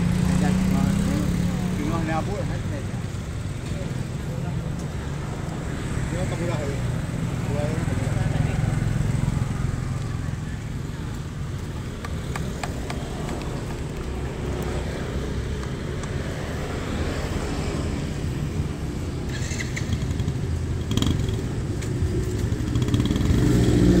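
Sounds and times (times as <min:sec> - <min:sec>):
motorcycle engine rumbling: 0:00.0 - 0:24.0.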